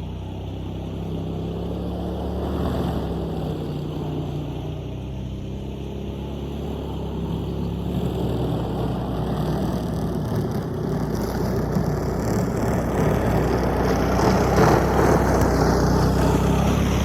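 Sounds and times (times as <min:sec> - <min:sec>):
heavy noisy rumble: 0:00.0 - 0:17.0
vehicle engine running: 0:00.0 - 0:17.0.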